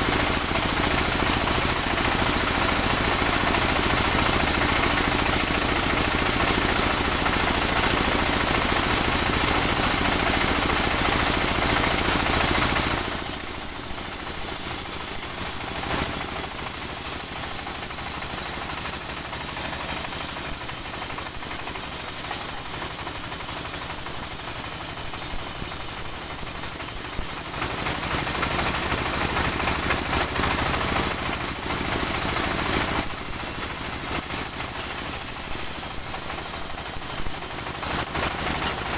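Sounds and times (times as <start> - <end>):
bandsaw sawmill sawing log: 0.0 - 38.9.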